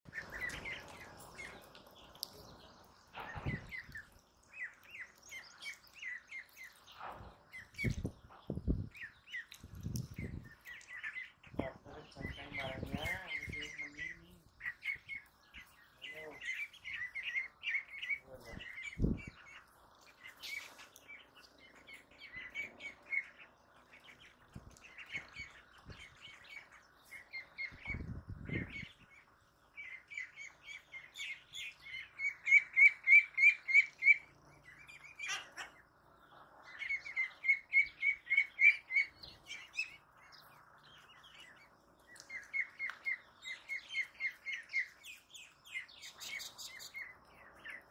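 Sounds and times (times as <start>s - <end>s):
ducklings peeping: 0.1s - 47.9s.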